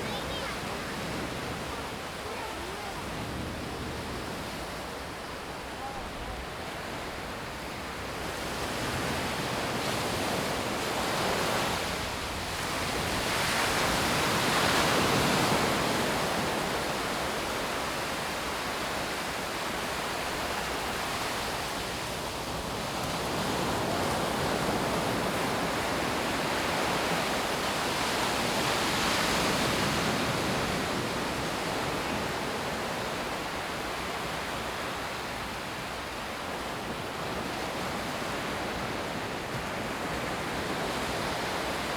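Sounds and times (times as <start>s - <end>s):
waves breaking on a beach: 0.0s - 41.9s.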